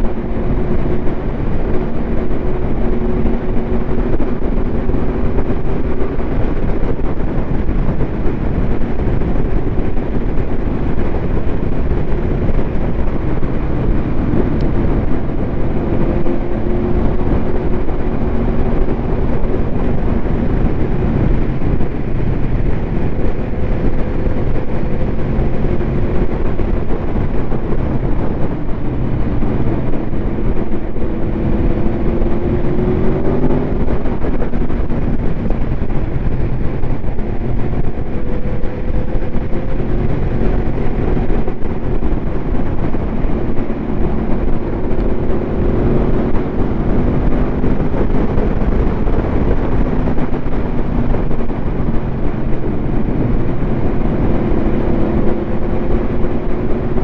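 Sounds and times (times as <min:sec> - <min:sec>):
motorcycle engine drone: 0:00.0 - 0:57.0
wind rushing over microphone: 0:00.0 - 0:57.0.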